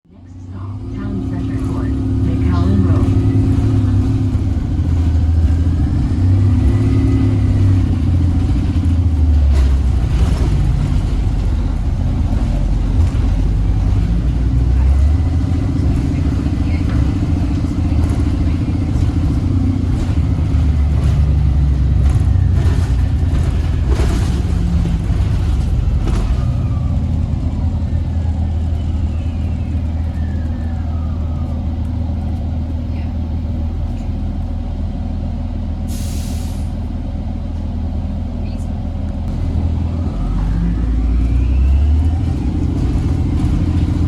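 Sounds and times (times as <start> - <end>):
bus engine low rumble: 0.0 - 44.0.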